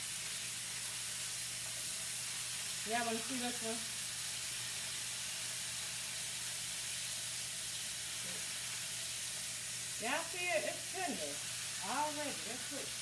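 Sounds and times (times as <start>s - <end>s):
steaks sizzling in a skillet: 0.0s - 13.0s.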